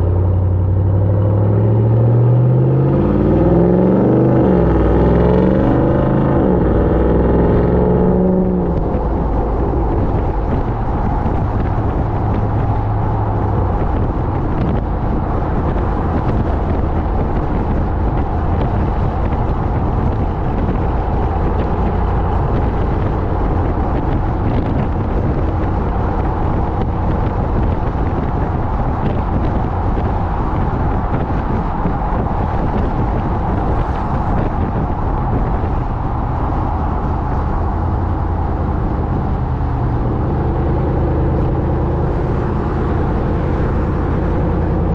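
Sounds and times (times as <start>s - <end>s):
truck engine exhaust: 0.0s - 44.9s.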